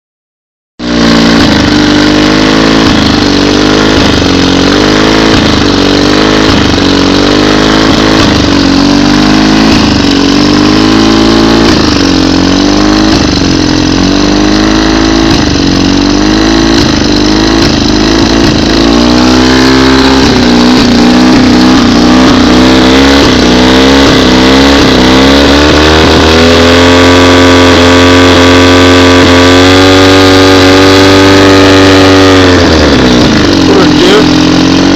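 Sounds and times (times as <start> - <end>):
outboard engine sputtering: 0.8 - 34.9.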